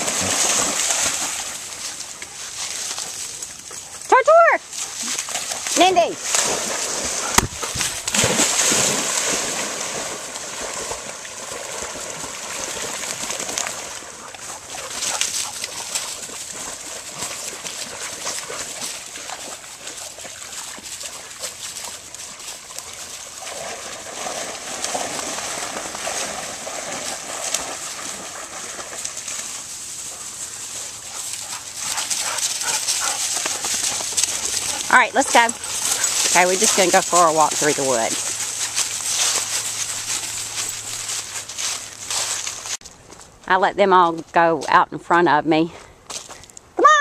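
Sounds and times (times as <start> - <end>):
dogs splashing in water: 0.0 - 42.8.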